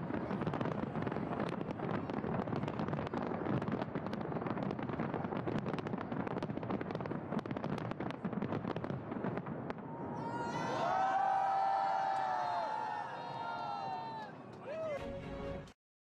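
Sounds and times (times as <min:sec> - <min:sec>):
fireworks bursting: 0:00.0 - 0:14.8.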